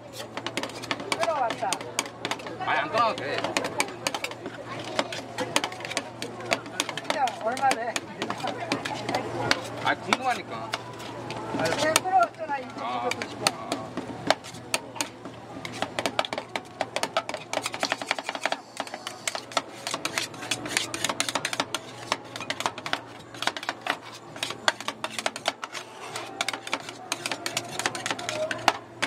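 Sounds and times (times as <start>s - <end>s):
metal spatulas scraping on steel: 0.1s - 16.4s, 17.0s - 29.0s.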